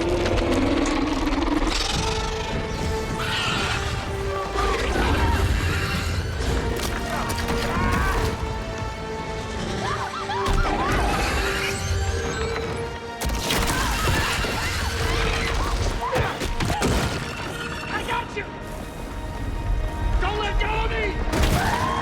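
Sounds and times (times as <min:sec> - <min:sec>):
dramatic music score: 0:00.0 - 0:22.0.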